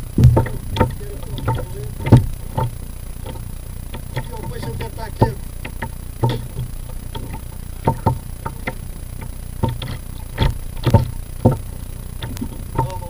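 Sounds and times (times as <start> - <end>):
low steady hum: 0.0 - 13.0
sharp knocks and thumps: 0.0 - 13.0.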